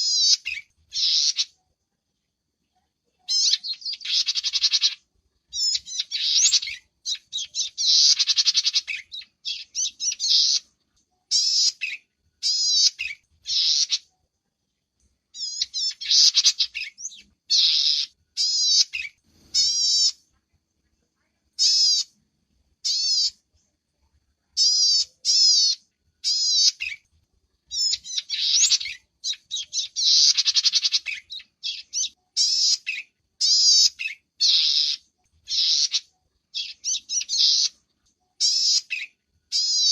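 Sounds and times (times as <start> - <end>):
songbird chattering: 0.0 - 1.6, 3.2 - 10.7, 11.3 - 14.2, 15.3 - 20.2, 21.6 - 22.2, 22.8 - 23.5, 24.6 - 27.0, 27.7 - 37.8, 38.4 - 39.9.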